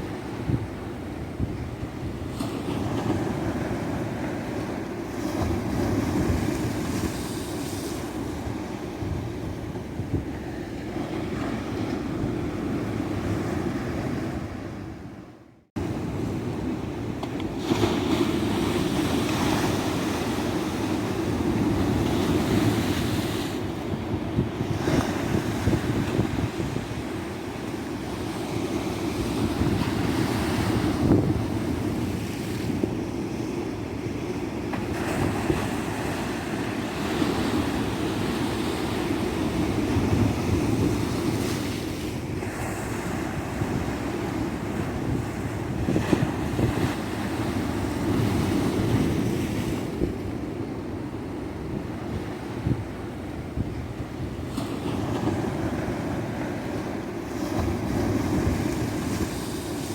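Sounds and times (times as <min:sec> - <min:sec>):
ocean waves breaking: 0:00.0 - 0:15.1, 0:15.8 - 0:59.9.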